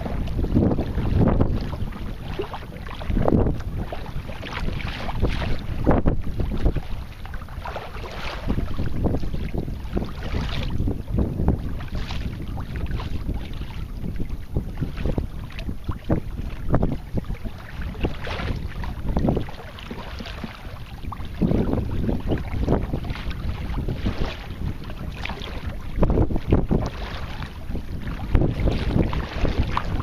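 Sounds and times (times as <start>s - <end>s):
small waves splashing: 0.0s - 30.0s
wind buffeting microphone: 0.0s - 30.0s.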